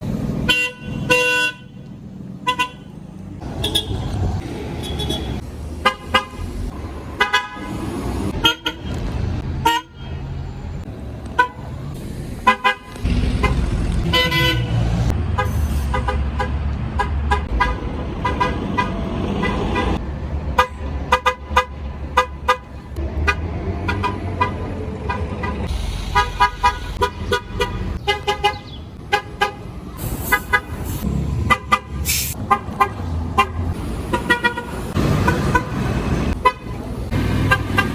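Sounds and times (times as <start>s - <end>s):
bus engines running: 0.0s - 37.9s
bus horns tooting: 0.4s - 1.8s, 2.4s - 9.0s, 9.6s - 10.2s, 11.2s - 11.8s, 12.4s - 20.0s, 20.6s - 37.9s.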